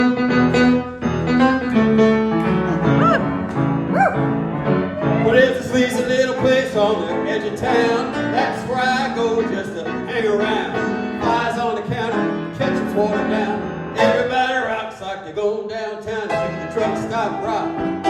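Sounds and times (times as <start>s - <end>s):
piano: 0.0s - 18.0s.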